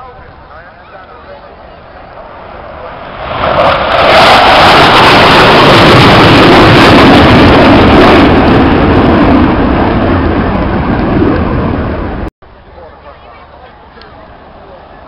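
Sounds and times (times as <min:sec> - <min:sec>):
jet roar flying past: 0:00.0 - 0:15.0.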